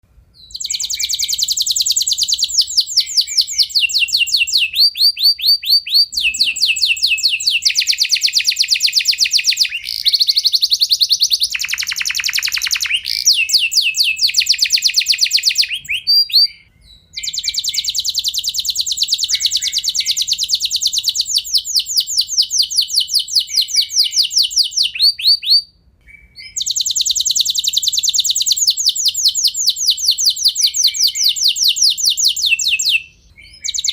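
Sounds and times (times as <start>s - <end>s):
canary singing trills: 0.4s - 33.9s.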